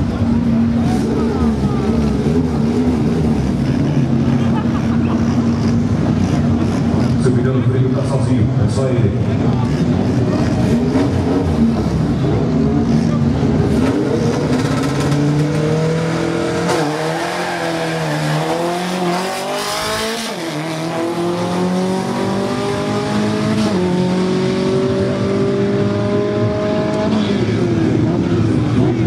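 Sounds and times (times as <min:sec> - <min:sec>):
car engine revving at full throttle: 0:00.0 - 0:29.0.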